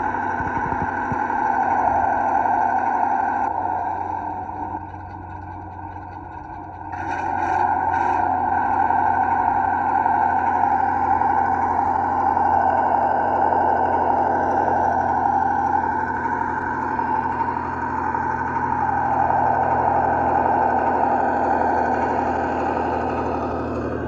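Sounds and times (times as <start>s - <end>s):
simulated truck engine running: 0.0s - 24.0s.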